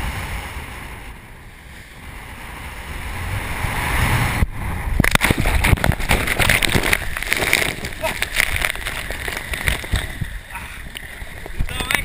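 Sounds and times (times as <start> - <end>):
sea water rushing past boat: 0.0 - 12.0
water splashing over bow: 1.7 - 12.0.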